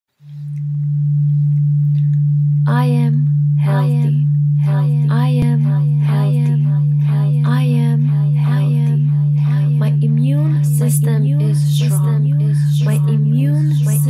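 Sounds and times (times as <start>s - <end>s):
low droning tone: 0.1s - 14.0s
person speaking: 2.7s - 14.0s.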